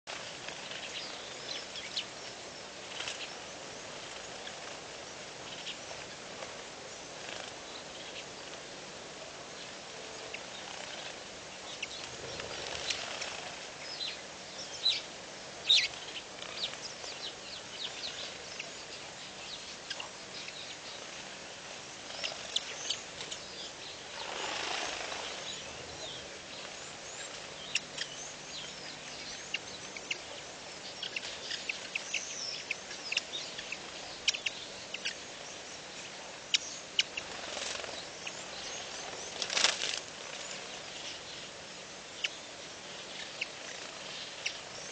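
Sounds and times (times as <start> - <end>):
background hiss: 0.0 - 44.9
small birds chirping: 0.0 - 44.9
longer bird calls: 0.1 - 44.9.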